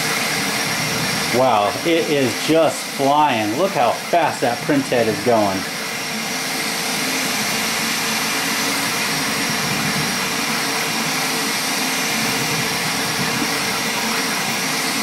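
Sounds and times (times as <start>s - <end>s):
motors whirring: 0.0s - 15.0s
printer fans rushing: 0.0s - 15.0s.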